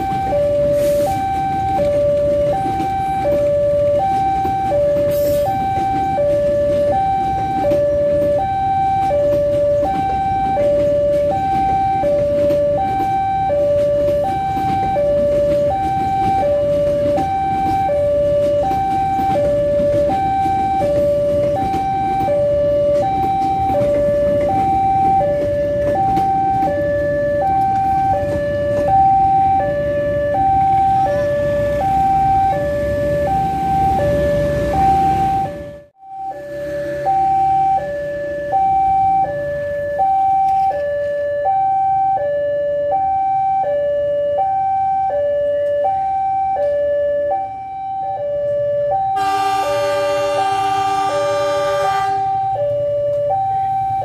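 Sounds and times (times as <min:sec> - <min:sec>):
level crossing two-tone alarm: 0:00.0 - 0:54.0
passing train rumble: 0:00.0 - 0:54.0.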